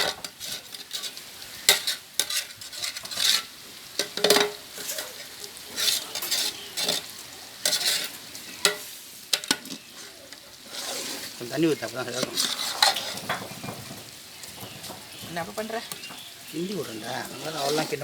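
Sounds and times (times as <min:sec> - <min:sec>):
chicken sizzling in curry: 0:00.0 - 0:18.0
ladle scraping pot: 0:00.0 - 0:18.0.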